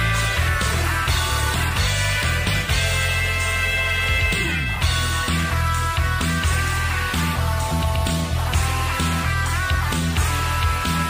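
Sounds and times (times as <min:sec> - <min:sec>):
instrumental music with low bass: 0:00.0 - 0:11.0.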